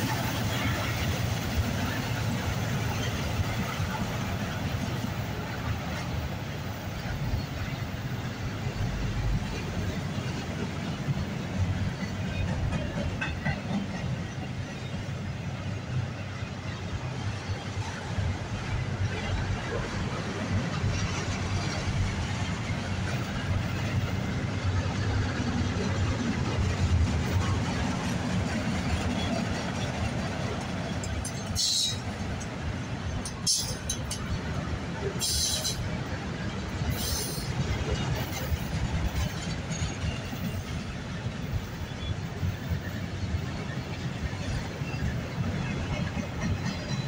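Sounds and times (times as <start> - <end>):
steel wheels running on rails: 0.0 - 47.0.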